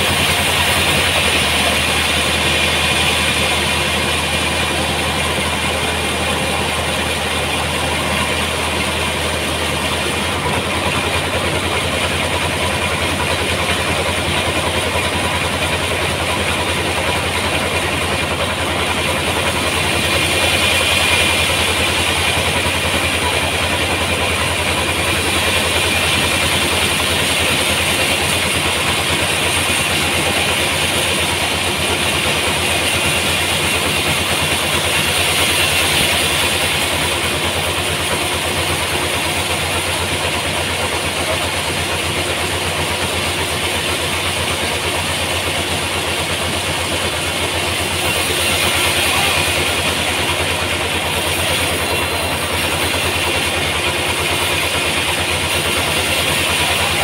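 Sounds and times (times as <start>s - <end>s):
band saw cutting log: 0.0s - 57.0s
low machine hum: 0.0s - 57.0s.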